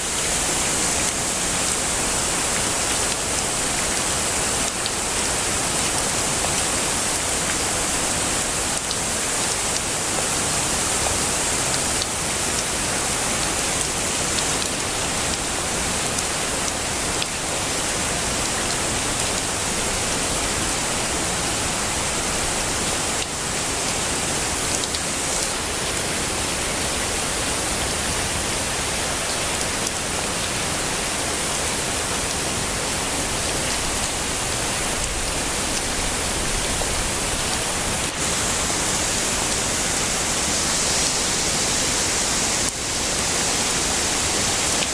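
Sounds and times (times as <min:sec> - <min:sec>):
heavy rain hiss: 0:00.0 - 0:44.9.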